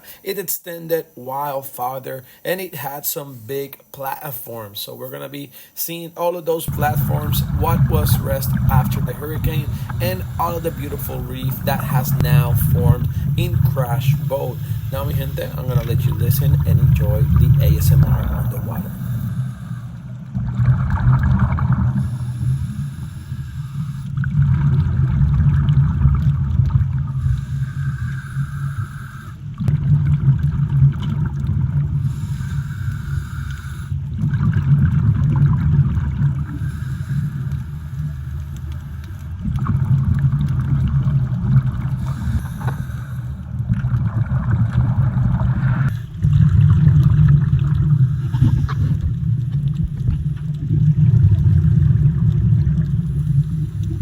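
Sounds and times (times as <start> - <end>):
water gurgling: 0.0 - 54.0
muffled underwater rumble: 6.6 - 54.0.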